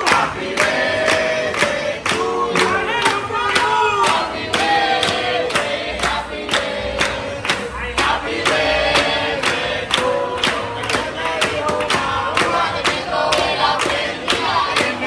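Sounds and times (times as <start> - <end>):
song with group vocals: 0.0 - 15.0.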